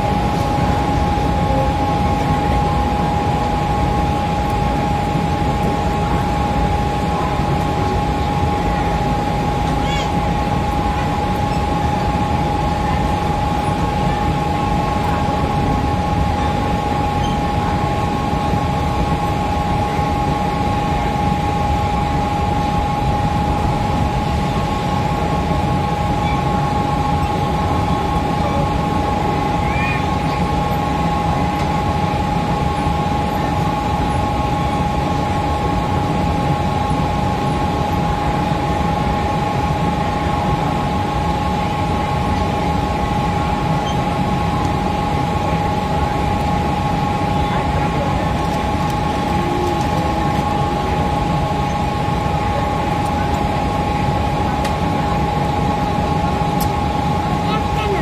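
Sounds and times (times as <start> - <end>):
high-pitched whine: 0.0 - 58.0
train hum and rushing: 0.0 - 58.0.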